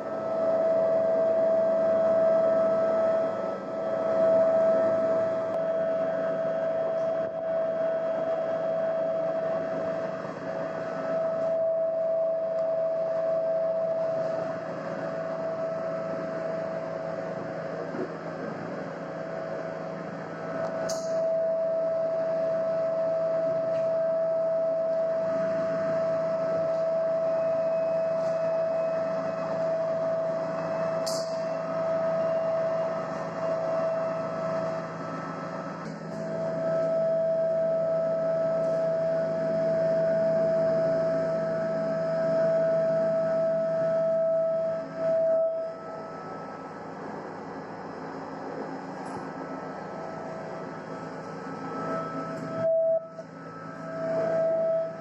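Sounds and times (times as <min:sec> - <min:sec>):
steady droning hum: 0:00.0 - 0:55.0.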